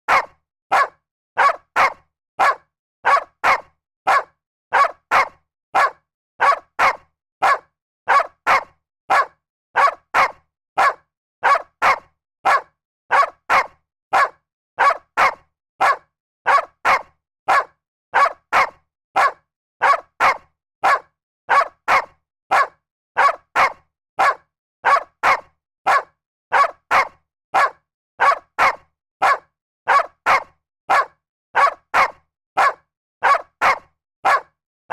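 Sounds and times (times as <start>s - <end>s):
dog barking: 0.1s - 34.9s.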